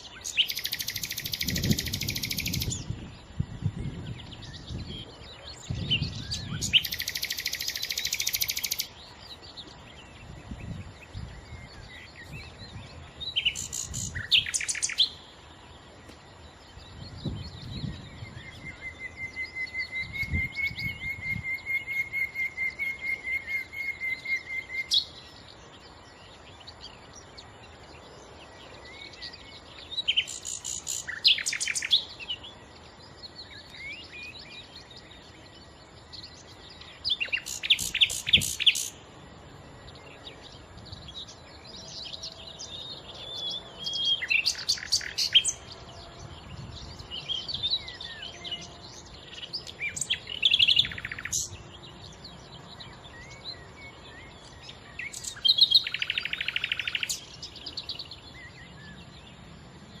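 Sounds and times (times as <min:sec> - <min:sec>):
nightingale singing: 0:00.0 - 1:00.0.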